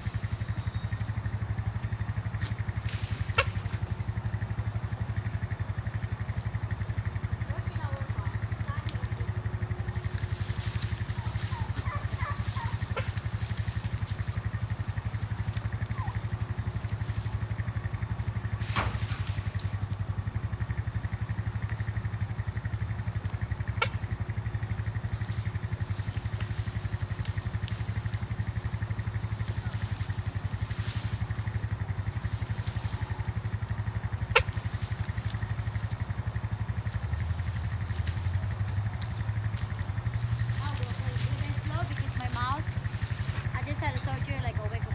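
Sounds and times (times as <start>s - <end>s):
engine running steadily: 0.0s - 44.9s.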